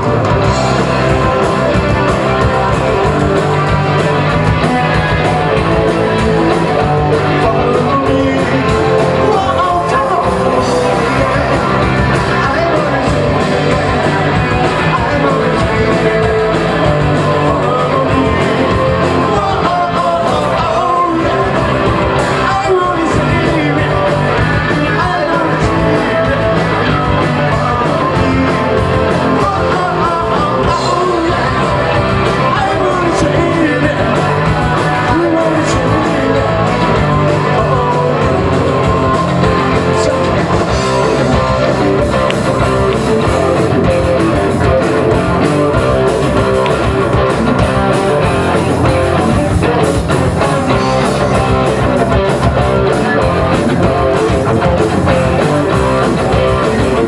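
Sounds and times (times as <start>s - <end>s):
person singing lead vocal: 0.0s - 57.0s
rock band playing: 0.0s - 57.0s.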